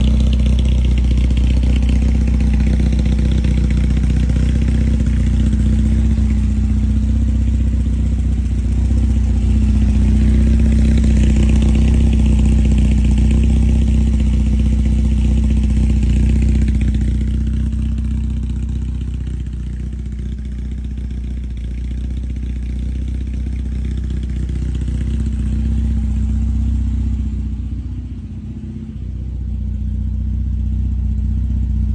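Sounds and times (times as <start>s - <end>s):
vehicle engine running: 0.0s - 31.9s.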